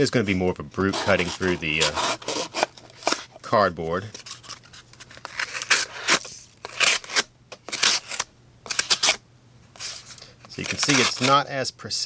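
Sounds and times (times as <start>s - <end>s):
knife cutting through cardboard: 0.2s - 3.4s, 4.1s - 9.2s, 9.8s - 11.4s.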